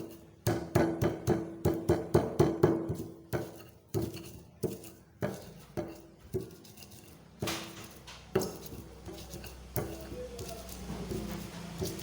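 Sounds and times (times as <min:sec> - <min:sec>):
pestle pounding in mortar: 0:00.0 - 0:12.0.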